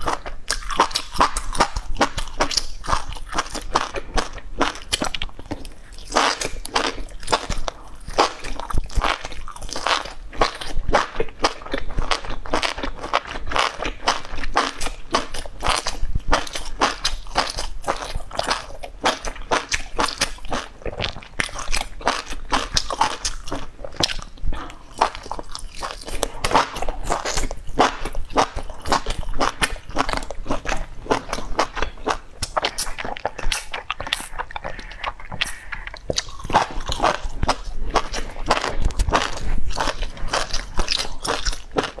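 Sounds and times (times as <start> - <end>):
person chewing and crunching: 0.0 - 42.0.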